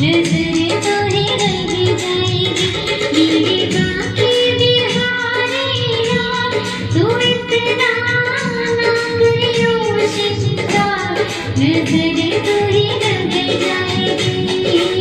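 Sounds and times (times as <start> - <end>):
girl singing slow melody: 0.0 - 15.0
rhythmic musical backing: 0.0 - 15.0.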